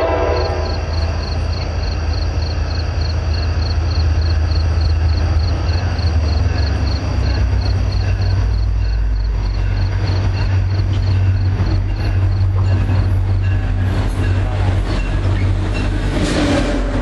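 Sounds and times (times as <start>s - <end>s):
crickets chirping: 0.0s - 16.1s
diesel locomotive rumble: 0.0s - 17.0s.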